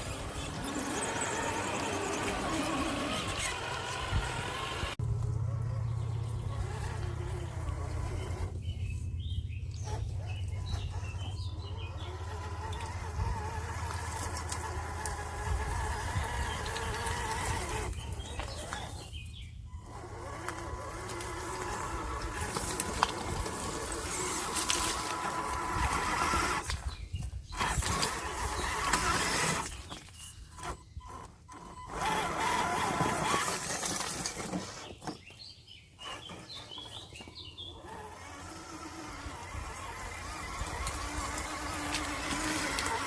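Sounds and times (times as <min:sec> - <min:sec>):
electric motor and gearbox whining: 0:00.0 - 0:43.0.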